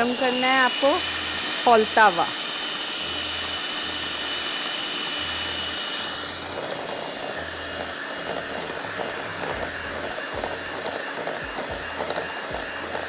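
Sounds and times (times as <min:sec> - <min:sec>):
electric hand mixer whipping: 0:00.0 - 0:13.0.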